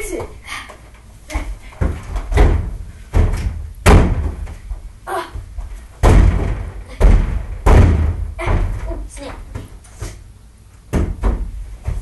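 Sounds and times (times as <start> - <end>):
heavy thumps and bangs: 1.3 - 10.2, 10.9 - 12.0.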